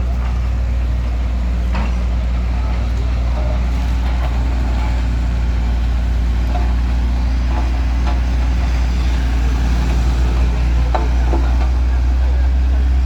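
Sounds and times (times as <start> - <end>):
large diesel engine humming: 0.0 - 13.0.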